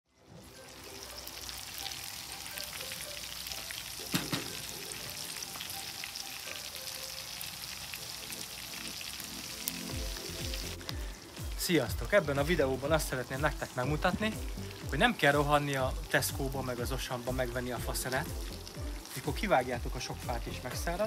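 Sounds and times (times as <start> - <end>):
chicken frying in oil: 0.2 - 21.0.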